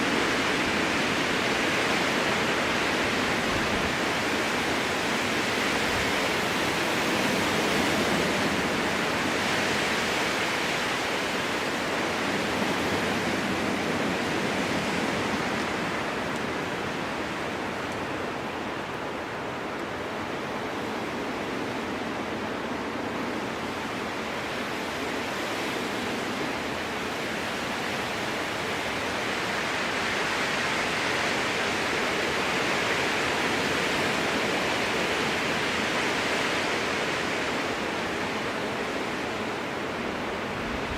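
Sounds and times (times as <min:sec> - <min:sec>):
strong wind through trees: 0:00.0 - 0:40.9.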